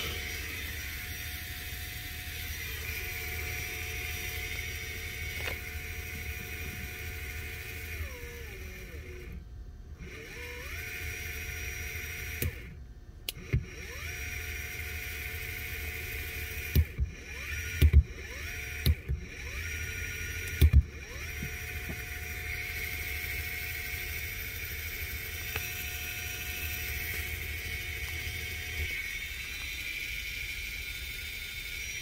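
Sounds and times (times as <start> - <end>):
electric motor whine: 0.0 - 32.0.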